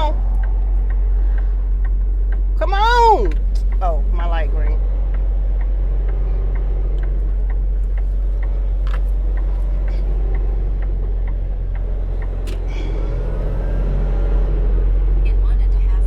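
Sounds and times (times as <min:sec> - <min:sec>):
turn signal clicking: 0:00.0 - 0:15.6
diesel engine rumbling: 0:00.0 - 0:16.0.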